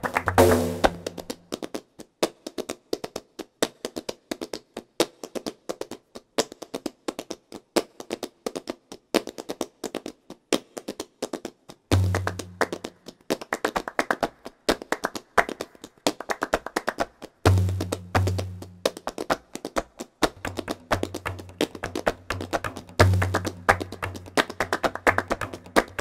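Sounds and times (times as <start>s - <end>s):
rhythmic hand-clapping: 0.0s - 26.0s.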